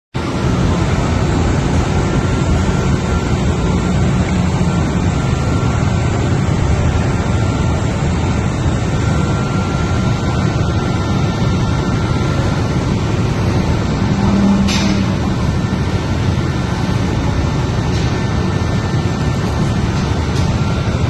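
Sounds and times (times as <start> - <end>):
engine room machinery roar: 0.1 - 21.0
faint high whine: 0.2 - 21.0.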